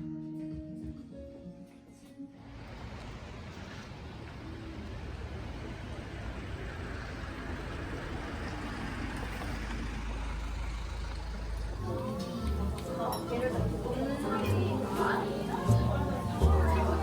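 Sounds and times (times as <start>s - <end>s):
low outdoor rumble: 2.4s - 17.0s.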